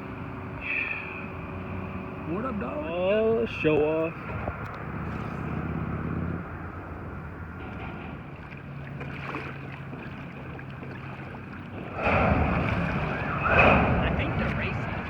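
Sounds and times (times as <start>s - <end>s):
engine hum: 0.0s - 15.0s
wind: 0.0s - 15.0s
water rushing: 1.4s - 15.0s.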